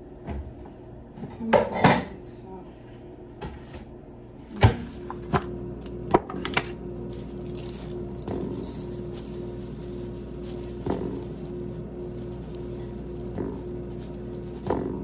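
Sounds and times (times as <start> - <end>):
steady low hum: 2.1 - 15.0.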